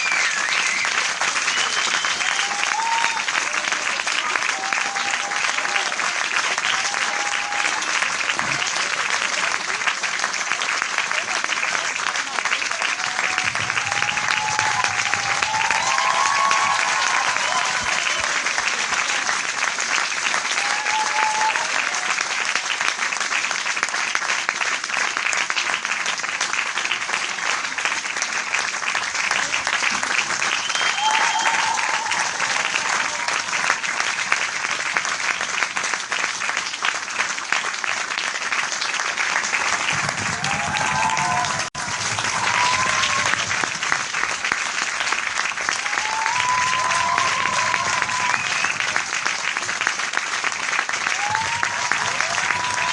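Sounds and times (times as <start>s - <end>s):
crowd applauding: 0.0s - 52.9s.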